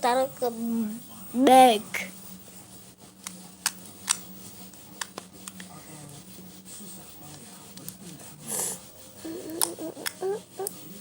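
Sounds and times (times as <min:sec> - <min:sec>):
soft rubbing: 0:01.9 - 0:11.0.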